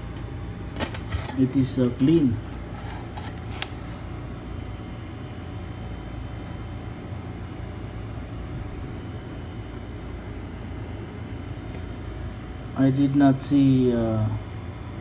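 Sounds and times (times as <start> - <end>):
low room hum and rumble: 0.0 - 15.0.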